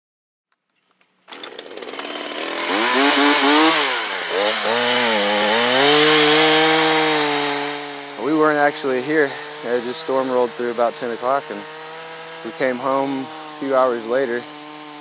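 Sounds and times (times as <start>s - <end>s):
chainsaw revving and cutting wood: 1.3s - 15.0s.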